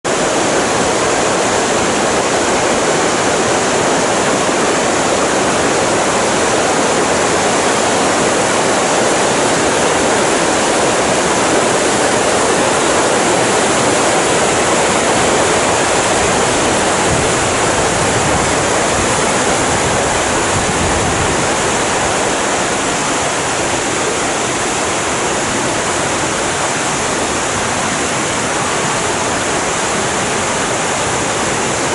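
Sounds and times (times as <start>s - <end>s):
river rapids roaring: 0.0s - 31.9s.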